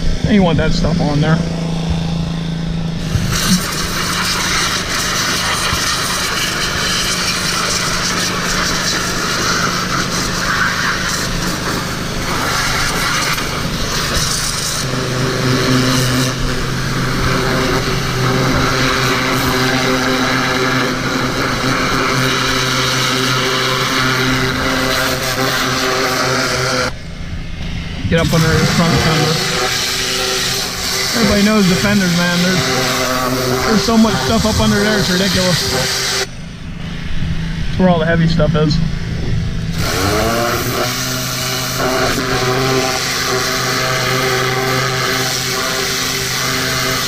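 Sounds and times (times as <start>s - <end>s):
pressure washer engine running: 0.0s - 47.0s
high-pressure water jet hissing: 3.0s - 27.0s, 27.6s - 36.4s, 39.6s - 47.0s.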